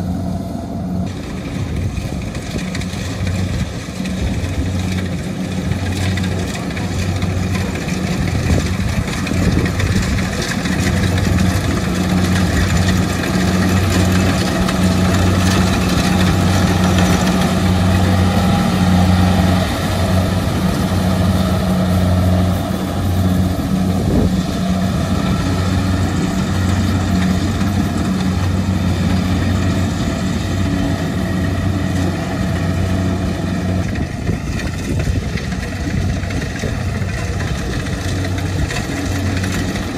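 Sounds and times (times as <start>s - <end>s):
cutting and threshing machinery: 0.0s - 39.9s
diesel engine humming: 0.0s - 39.9s.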